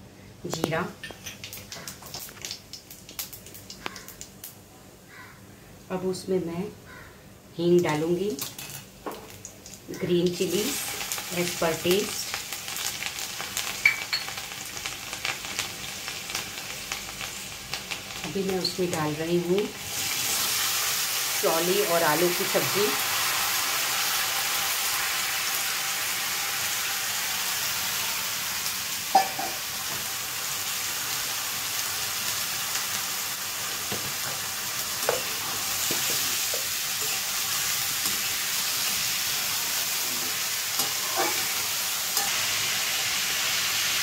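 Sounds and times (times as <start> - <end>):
vegetables sizzling in hot oil: 1.3 - 4.6, 8.2 - 44.0.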